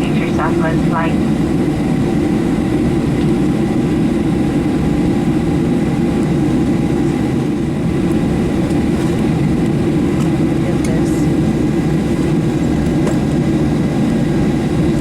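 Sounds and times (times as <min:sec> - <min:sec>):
airplane cabin rumble: 0:00.0 - 0:15.0
faint steady whine: 0:00.0 - 0:15.0.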